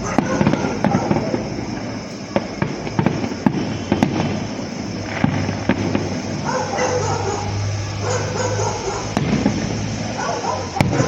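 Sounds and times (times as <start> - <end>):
fireworks bangs and cracks: 0.0 - 11.0
fireworks crackling rumble: 0.0 - 11.0.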